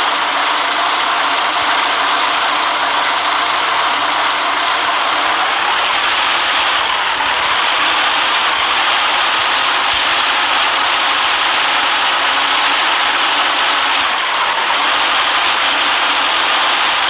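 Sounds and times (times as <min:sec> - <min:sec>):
bus engine running: 0:00.0 - 0:17.0
road noise: 0:00.0 - 0:17.0.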